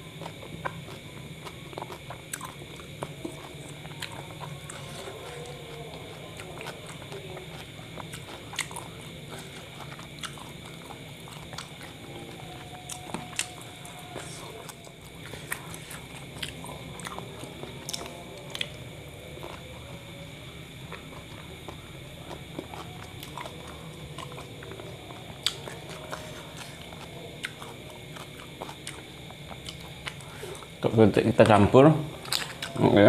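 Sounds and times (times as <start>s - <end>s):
person chewing food: 0.0s - 31.6s, 32.2s - 32.9s
steady low hum: 0.0s - 33.0s.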